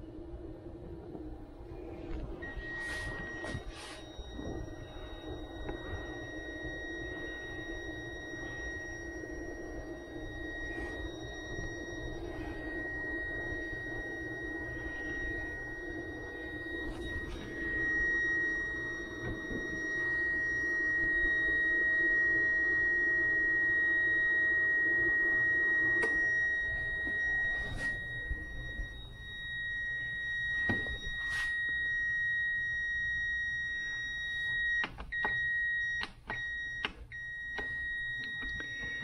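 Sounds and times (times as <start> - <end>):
low hum: 0.0 - 39.0
ups high-pitched alarm tone: 1.8 - 39.0
short alarm beeps: 2.4 - 39.0.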